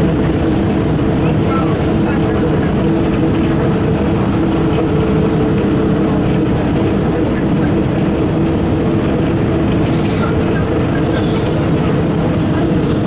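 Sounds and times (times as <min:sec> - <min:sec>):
bus engine drone: 0:00.0 - 0:13.0
road rumble: 0:00.0 - 0:13.0.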